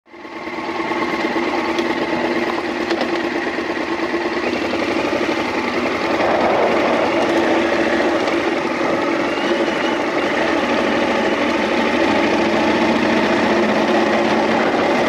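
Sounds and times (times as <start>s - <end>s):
off-road motorcycle engine running: 0.1s - 15.0s.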